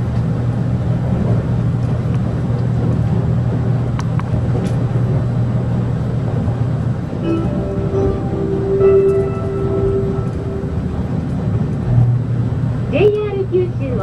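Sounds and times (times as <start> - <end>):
train running hum and rumble: 0.0 - 14.0.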